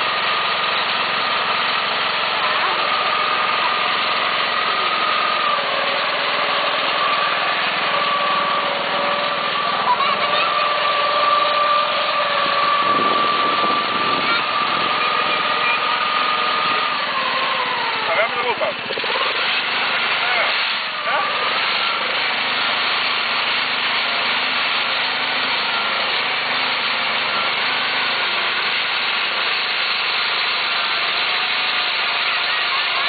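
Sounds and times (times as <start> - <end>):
small tractor engine running: 0.0 - 33.0.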